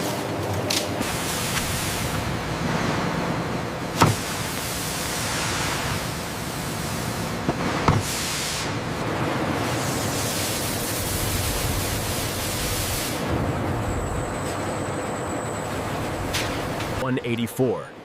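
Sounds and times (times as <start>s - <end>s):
factory machinery running: 0.0s - 18.0s.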